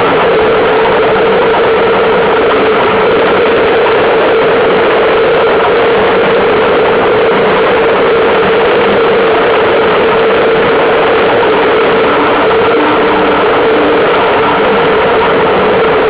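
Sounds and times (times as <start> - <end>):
steady drone: 0.0 - 16.0
water rushing along hull: 0.0 - 16.0.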